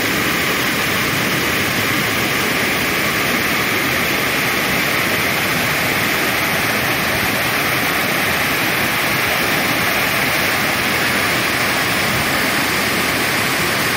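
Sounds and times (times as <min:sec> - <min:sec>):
heavy rain pouring: 0:00.0 - 0:13.9.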